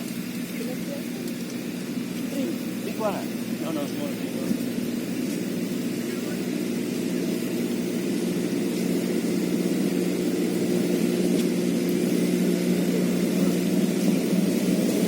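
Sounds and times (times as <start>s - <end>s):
steady motor drone: 0.0s - 15.0s.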